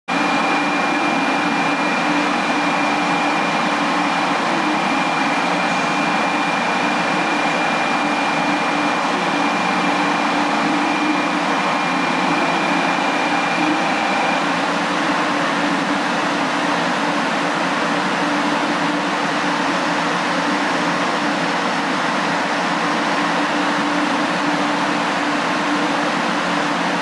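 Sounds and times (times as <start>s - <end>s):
high-pitched whine: 0.1s - 27.0s
train equipment hum and whir: 0.1s - 27.0s.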